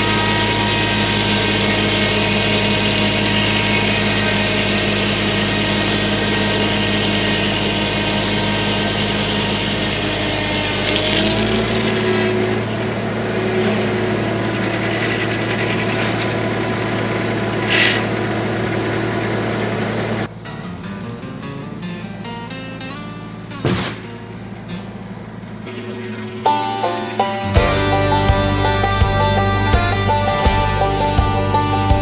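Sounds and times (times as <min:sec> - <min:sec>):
circular saw blade sawing: 0:00.0 - 0:20.3, 0:25.6 - 0:32.0
tractor engine running: 0:00.0 - 0:32.0.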